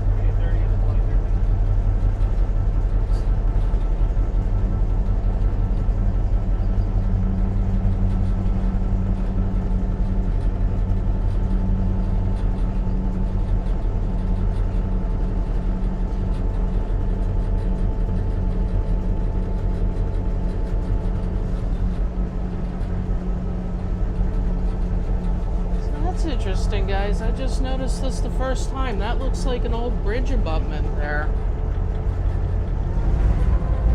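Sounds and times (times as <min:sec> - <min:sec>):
diesel locomotive engine drone: 0:00.0 - 0:33.9.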